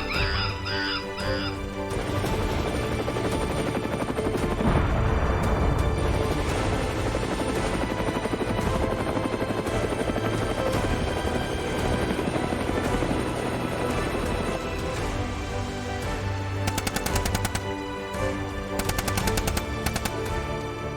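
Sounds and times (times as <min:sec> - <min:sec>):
background music: 0:00.0 - 0:20.9.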